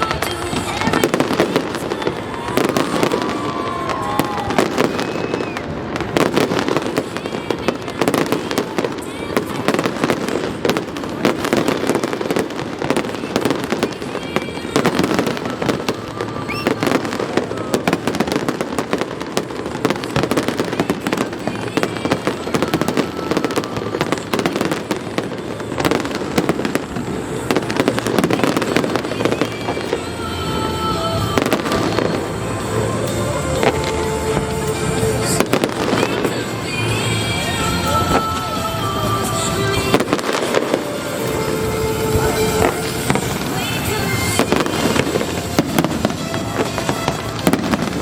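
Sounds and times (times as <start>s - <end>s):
fireworks bangs and crackle: 0.0s - 48.0s.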